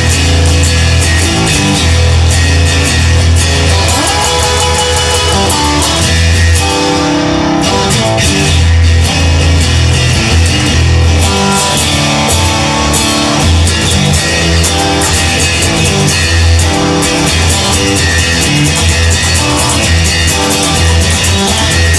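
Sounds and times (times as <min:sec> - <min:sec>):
instrumental rock music: 0:00.0 - 0:21.9.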